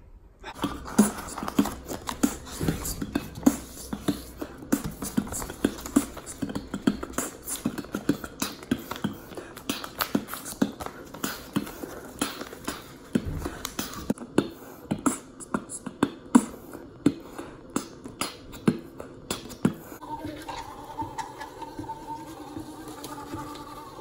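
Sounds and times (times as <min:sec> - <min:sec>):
beatboxing: 0:00.4 - 0:24.0.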